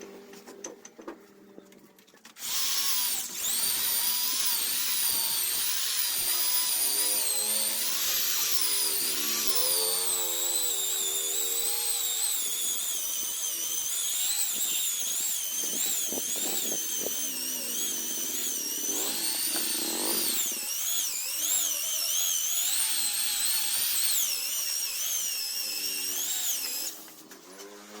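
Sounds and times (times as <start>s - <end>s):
electric polisher motor whine: 2.4s - 28.0s.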